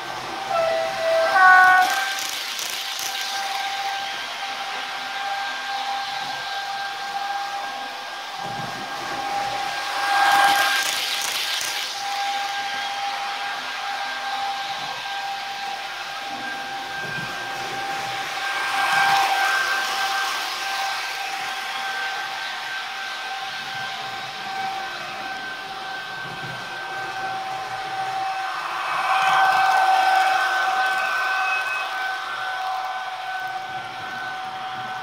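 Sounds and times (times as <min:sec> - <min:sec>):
electric traction whine: 0:00.0 - 0:35.0
model train rushing past: 0:00.0 - 0:35.0.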